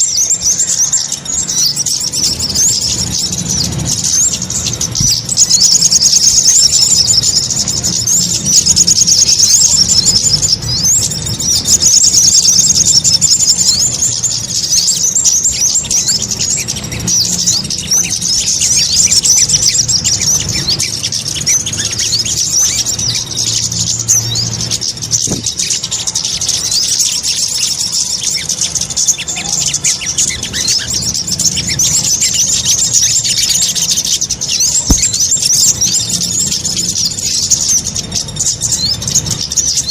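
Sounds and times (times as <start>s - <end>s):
high bird chirps and trills: 0.0s - 39.9s.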